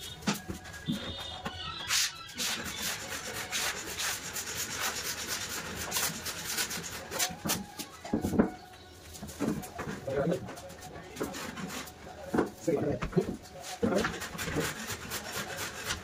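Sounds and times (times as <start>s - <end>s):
scraping on wood: 0.3s - 16.0s.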